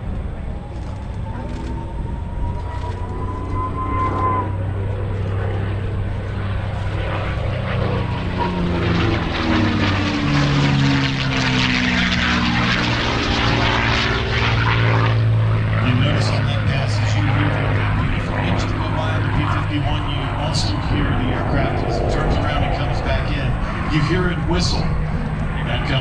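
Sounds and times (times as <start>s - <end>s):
propeller aircraft engine passing: 0.0s - 26.0s.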